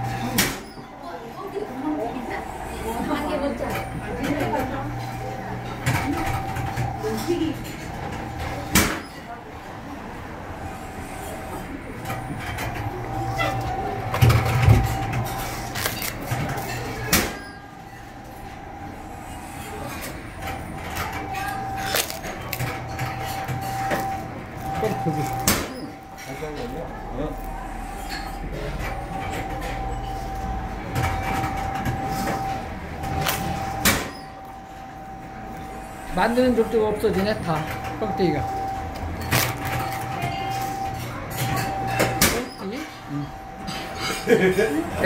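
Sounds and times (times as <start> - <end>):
rice cracker machine humming: 0.0 - 45.0.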